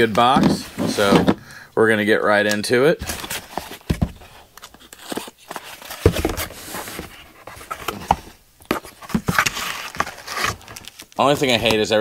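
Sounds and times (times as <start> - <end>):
cardboard and tape rustling: 0.0 - 1.4, 2.9 - 12.0.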